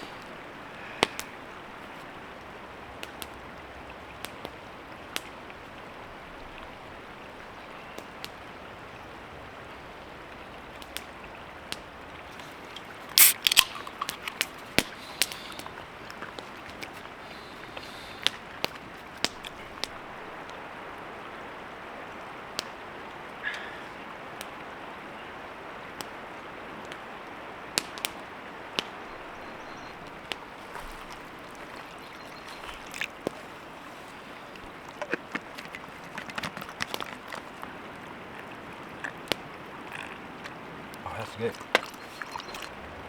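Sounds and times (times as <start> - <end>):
campfire crackling: 0.0 - 43.0.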